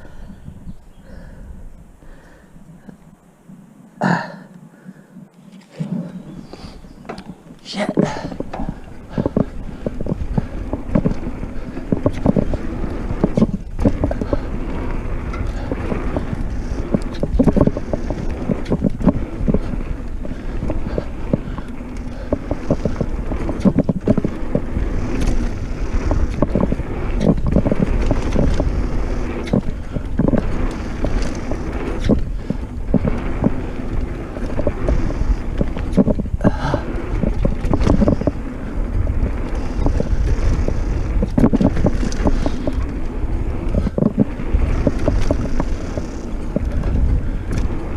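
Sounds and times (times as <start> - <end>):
tyres on dirt: 0.0 - 47.9
wind rushing over microphone: 0.0 - 47.9
bike knocks and rattles: 7.0 - 47.9.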